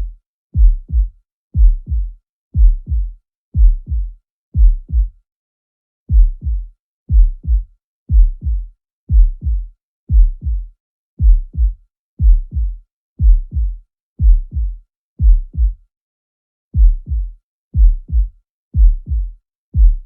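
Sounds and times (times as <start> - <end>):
heartbeat lub-dub: 0.0 - 5.2, 6.1 - 15.8, 16.8 - 20.0.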